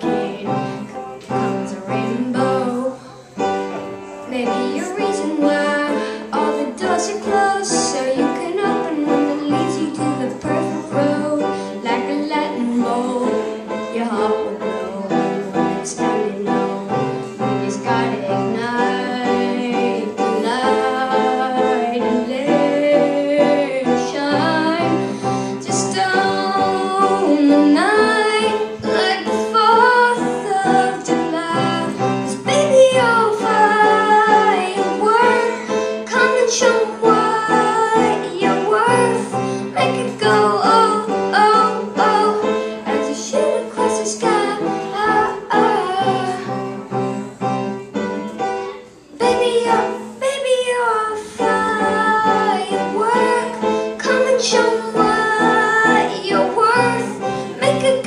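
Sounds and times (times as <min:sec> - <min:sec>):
woman singing: 0:00.0 - 0:03.2, 0:04.3 - 0:46.6, 0:49.1 - 0:58.0
guitar: 0:00.0 - 0:58.0
piano: 0:00.0 - 0:58.0.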